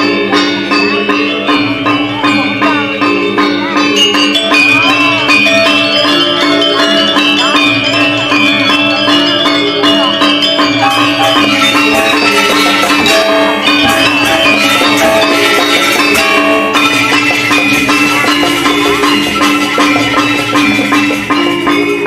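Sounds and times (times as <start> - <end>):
metallophones and gongs ringing: 0.0 - 22.0
pitch-bending melody line: 0.0 - 22.0.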